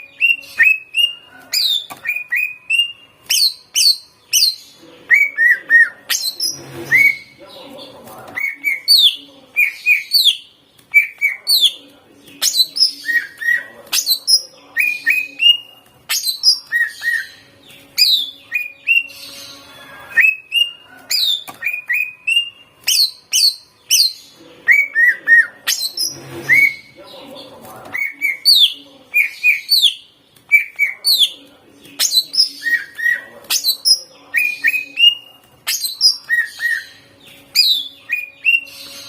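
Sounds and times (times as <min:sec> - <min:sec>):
bird singing with chirps and whistles: 0:00.0 - 0:07.4, 0:08.3 - 0:11.8, 0:12.4 - 0:27.0, 0:27.9 - 0:39.0.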